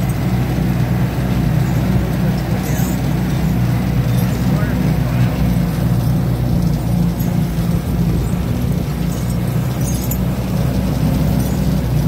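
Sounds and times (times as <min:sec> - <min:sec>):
diesel engine low hum: 0:00.0 - 0:12.0.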